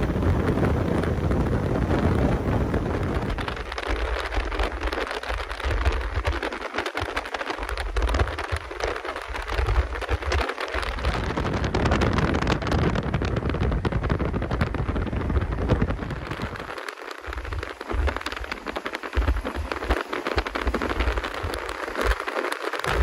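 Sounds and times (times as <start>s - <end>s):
train running rumble: 0.0s - 23.0s
wind buffeting microphone: 0.0s - 23.0s.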